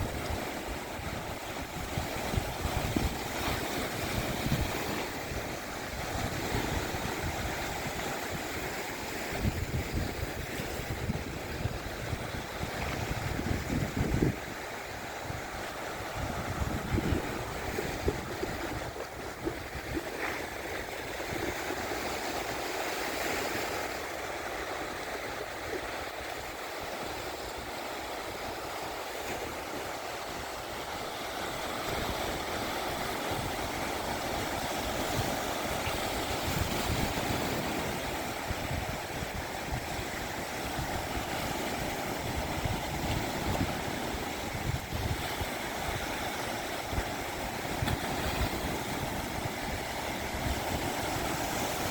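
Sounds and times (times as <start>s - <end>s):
waves breaking on shore: 0.0s - 51.9s.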